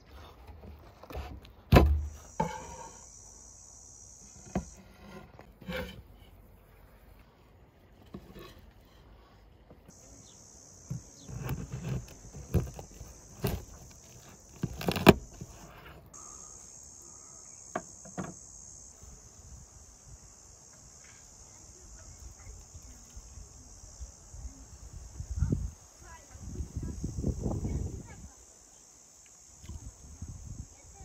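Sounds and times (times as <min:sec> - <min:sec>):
insects chirring: 0:00.8 - 0:07.5, 0:08.1 - 0:31.0.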